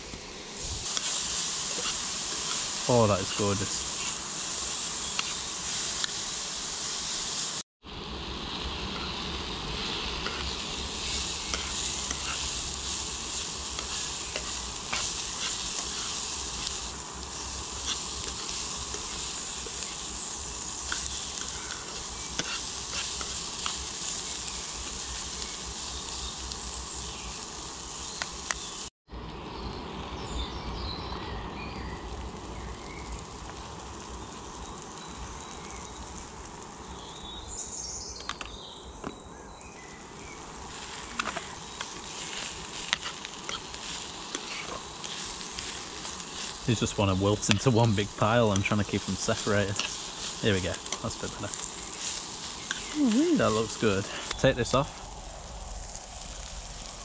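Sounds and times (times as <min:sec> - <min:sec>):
food sizzling in a pan: 0:00.0 - 0:29.0, 0:29.8 - 0:57.0.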